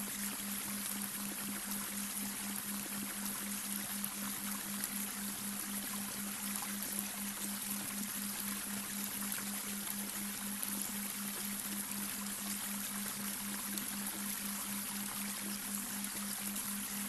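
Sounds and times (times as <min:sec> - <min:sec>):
brook water running: 0:00.0 - 0:17.0.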